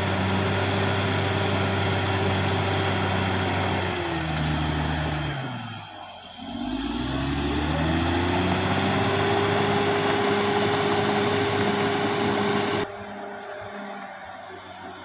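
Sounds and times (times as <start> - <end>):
bulldozer diesel engine revving: 0.0 - 15.0.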